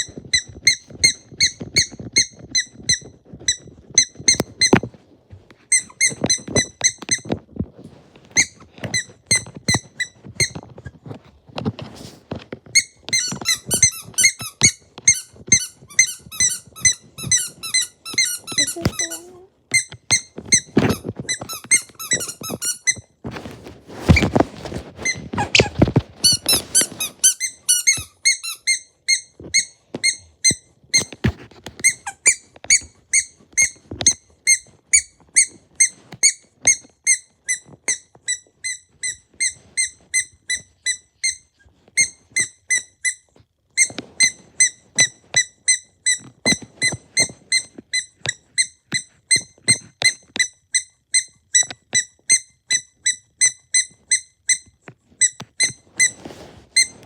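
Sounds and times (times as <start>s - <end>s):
high-pitched squeak: 5.6s - 7.4s, 12.8s - 57.0s.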